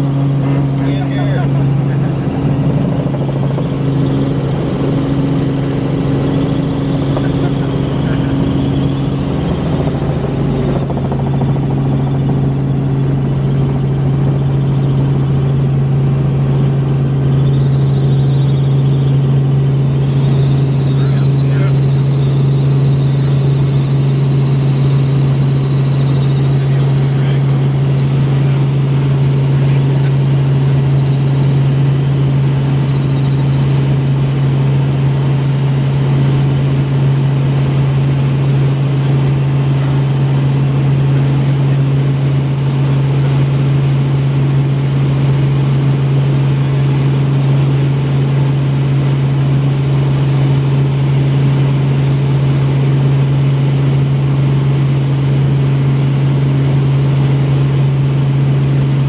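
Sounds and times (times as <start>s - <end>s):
helicopter rotor and engine drone: 0.0s - 59.0s
high-pitched whine: 0.0s - 59.0s.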